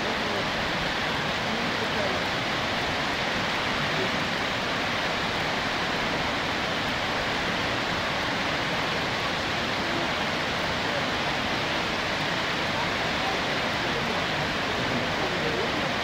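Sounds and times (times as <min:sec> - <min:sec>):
water rushing and falling: 0:00.0 - 0:16.0.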